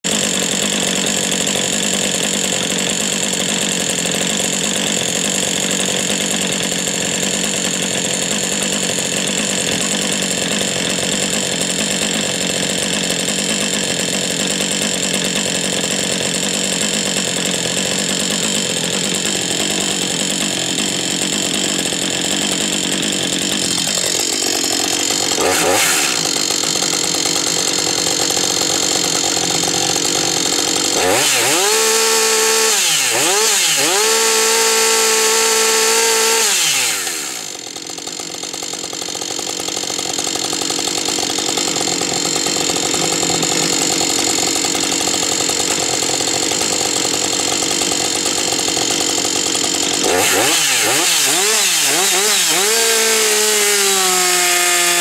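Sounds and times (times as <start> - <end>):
chainsaw idling: 0.0 - 55.0
chainsaw throttle blip: 0.0 - 55.0.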